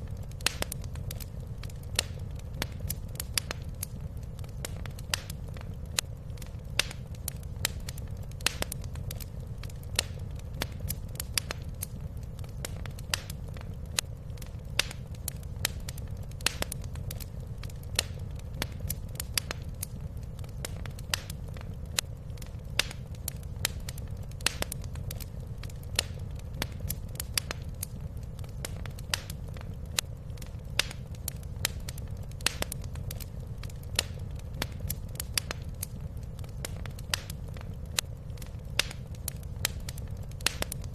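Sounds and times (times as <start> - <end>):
fire crackling and popping: 0.0 - 40.9
fire low rumble: 0.0 - 40.9.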